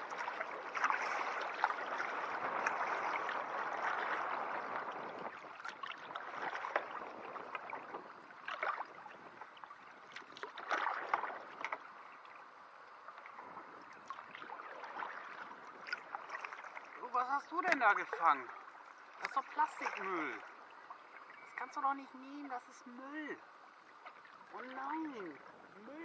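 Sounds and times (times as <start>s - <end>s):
kayak paddle strokes in water: 0.0s - 26.0s
water splashing and trickling: 0.0s - 26.0s.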